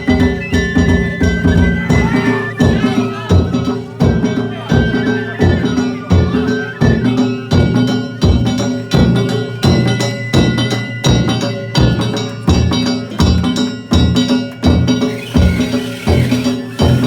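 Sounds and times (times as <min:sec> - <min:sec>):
ringing hand gongs: 0:00.0 - 0:17.0
taiko drum: 0:00.0 - 0:17.0.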